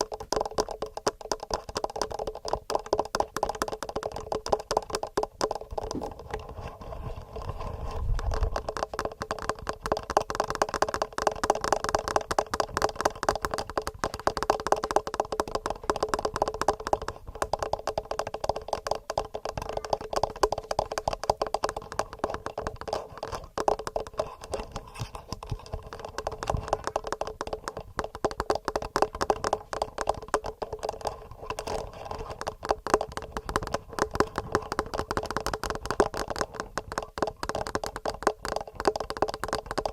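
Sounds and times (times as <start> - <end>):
fingernails tapping on recorder: 0.0 - 6.8, 8.0 - 39.9.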